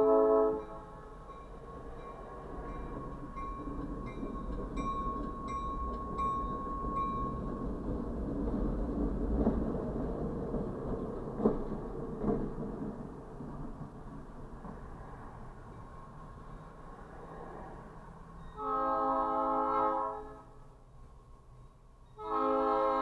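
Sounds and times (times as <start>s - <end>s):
diesel locomotive rumble: 0.0s - 23.0s
freight train rolling past: 0.0s - 23.0s.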